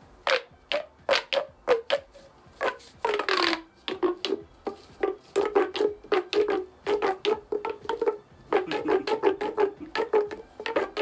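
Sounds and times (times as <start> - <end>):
plastic pipe crackling and creaking: 0.0 - 11.0.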